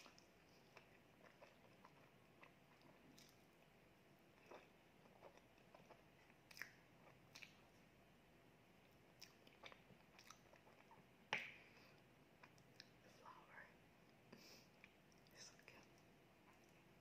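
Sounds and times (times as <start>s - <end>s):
soft chewing noises: 0.0s - 17.0s.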